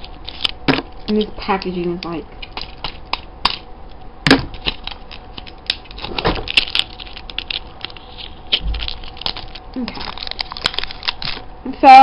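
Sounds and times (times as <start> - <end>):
packaging crinkling: 0.0 - 1.7, 2.4 - 11.5.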